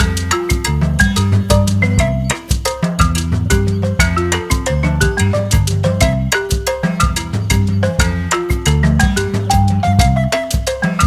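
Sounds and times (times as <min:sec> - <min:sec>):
upbeat marimba music: 0:00.0 - 0:11.0.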